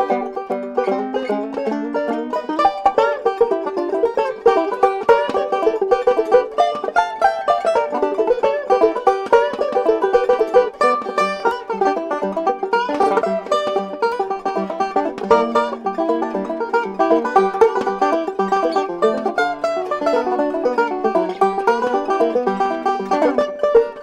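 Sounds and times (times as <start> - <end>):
fast plucked banjo music: 0.0 - 24.0.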